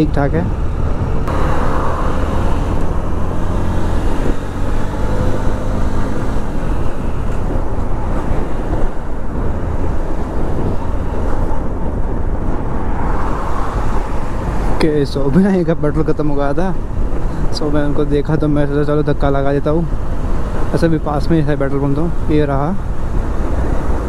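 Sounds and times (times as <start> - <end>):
traffic: 0.0 - 24.0
wind and road noise: 0.0 - 24.0.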